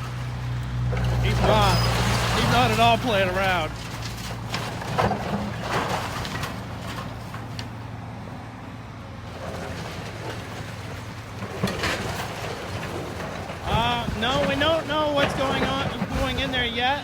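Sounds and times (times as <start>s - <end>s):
demolition machine engine running: 0.0s - 17.0s.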